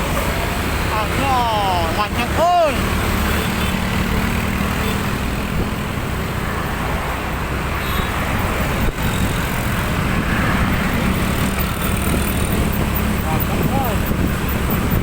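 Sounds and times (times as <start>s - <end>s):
vehicle road noise: 0.0s - 15.0s.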